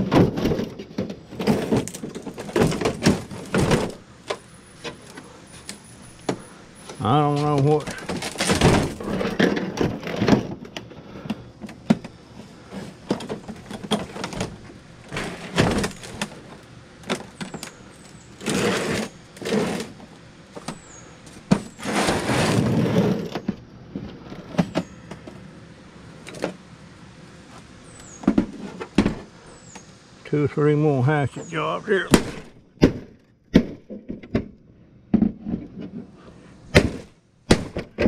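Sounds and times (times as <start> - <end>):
plastic scraping on concrete: 0.0 - 6.4, 7.4 - 25.4, 27.5 - 29.3, 32.1 - 38.0.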